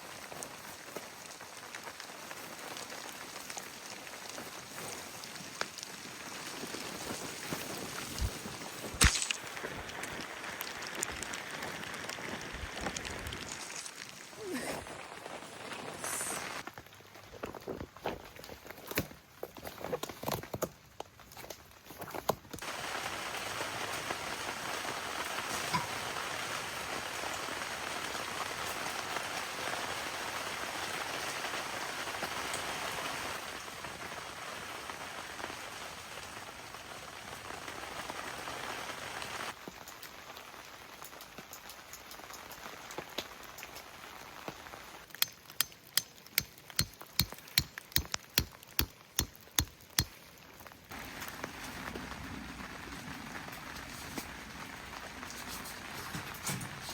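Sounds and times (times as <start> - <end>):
rain pattering: 0.0 - 17.2, 22.6 - 56.9.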